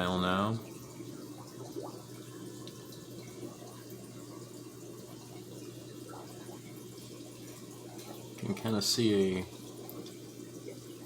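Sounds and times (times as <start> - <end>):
aquarium water trickling: 0.0 - 11.0
low steady hum: 0.0 - 11.0.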